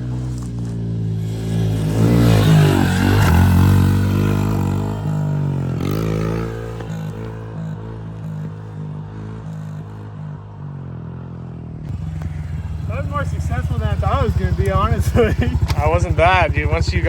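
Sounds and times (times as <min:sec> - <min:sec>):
motorbike engine revving: 0:00.0 - 0:17.0.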